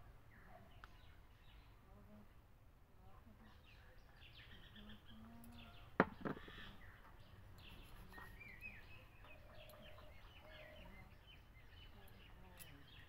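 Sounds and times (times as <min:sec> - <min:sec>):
small birds chirping: 0:00.0 - 0:02.4, 0:03.0 - 0:13.0.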